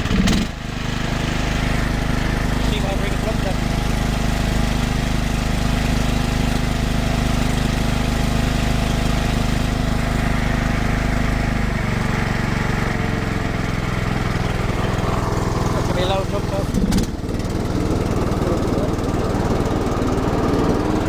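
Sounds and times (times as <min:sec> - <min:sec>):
ride-on mower engine running: 0:00.0 - 0:21.0.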